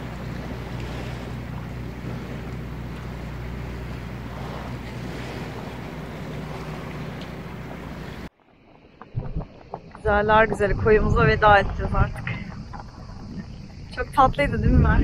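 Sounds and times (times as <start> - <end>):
low engine hum: 0.0 - 15.0
water lapping: 0.0 - 15.0
wind buffeting microphone: 0.0 - 15.0.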